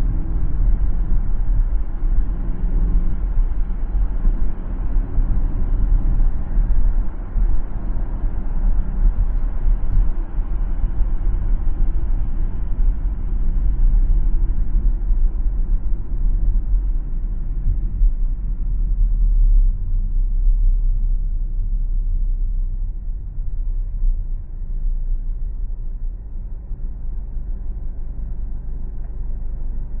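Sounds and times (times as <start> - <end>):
car tyres and engine rumble: 0.0 - 30.0.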